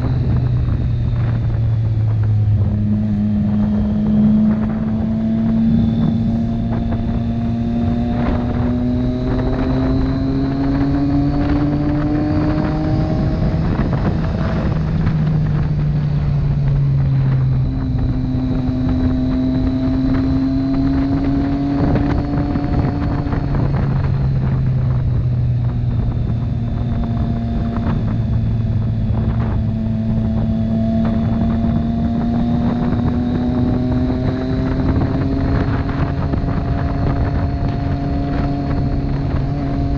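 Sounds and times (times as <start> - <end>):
motorcycle engine at road speed: 0.0 - 39.9
wind rushing over microphone: 0.0 - 39.9.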